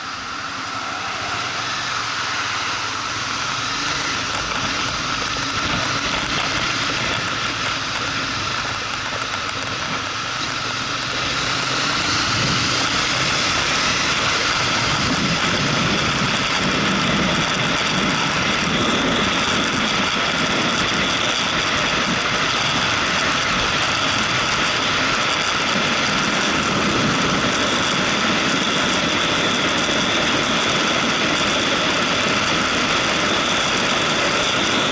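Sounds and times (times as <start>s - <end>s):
motorcycle engine running: 0.0s - 34.9s
road and wind noise: 0.0s - 34.9s.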